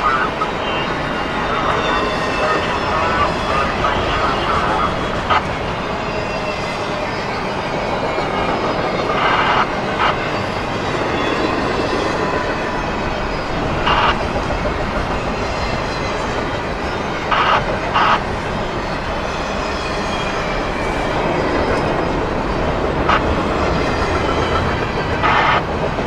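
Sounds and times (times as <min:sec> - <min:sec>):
train wheels rumbling on rail: 0:00.9 - 0:26.0.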